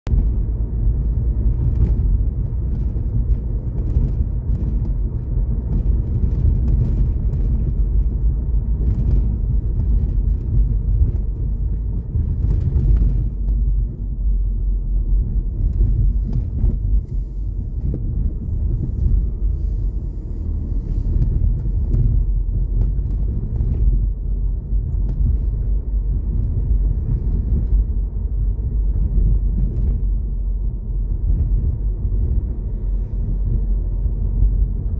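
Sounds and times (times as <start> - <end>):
car engine rumble from cabin: 0.0 - 34.9
tyre noise on road: 0.1 - 34.9.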